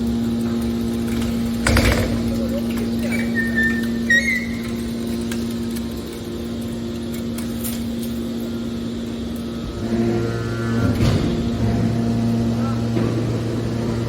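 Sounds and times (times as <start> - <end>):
baler machine humming: 0.0 - 14.0.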